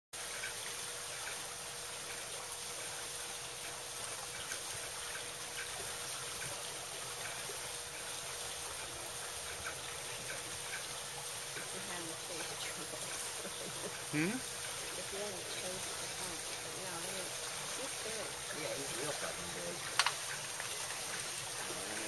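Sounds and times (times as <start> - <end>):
faint steady hum: 0.2 - 22.0
water rushing: 0.2 - 22.0.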